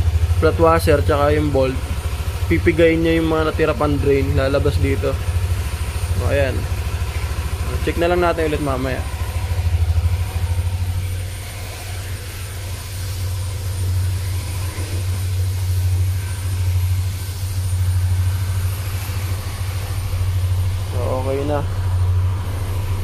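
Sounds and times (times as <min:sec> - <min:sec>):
scooter engine idling: 0:00.0 - 0:23.0.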